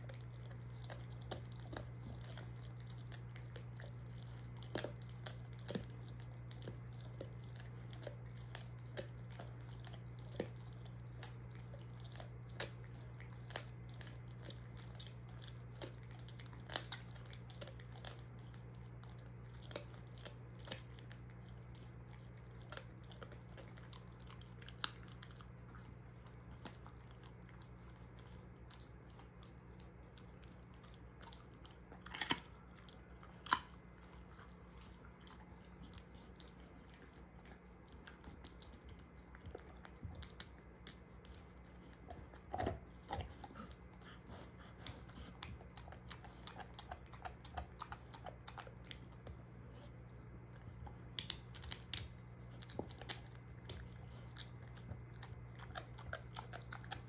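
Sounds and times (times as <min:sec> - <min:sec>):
dog gnawing a bone: 0:00.0 - 0:57.0.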